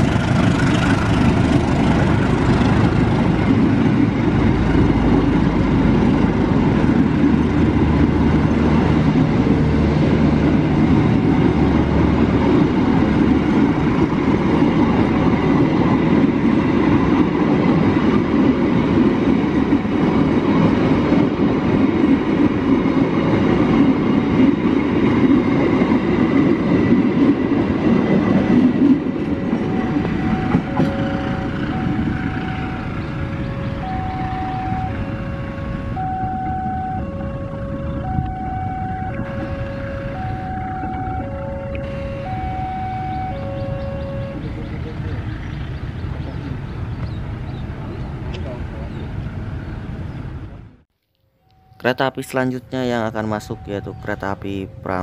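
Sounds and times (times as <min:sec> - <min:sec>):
train coaches rolling on rails: 0:00.0 - 0:50.7.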